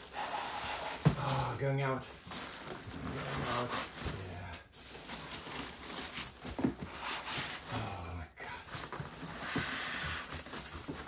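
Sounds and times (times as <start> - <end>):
plastic bag rustling: 0.0 - 7.9, 8.5 - 11.0.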